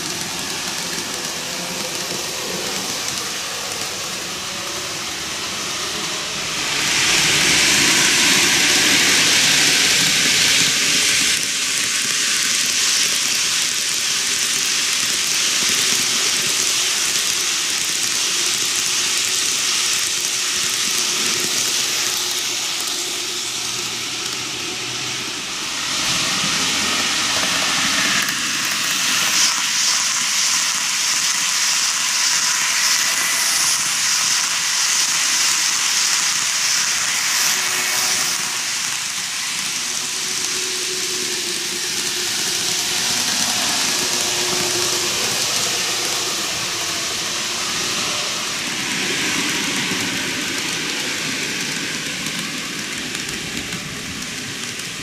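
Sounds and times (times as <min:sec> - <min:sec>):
model train wheels rumbling on rails: 0:00.0 - 0:55.0.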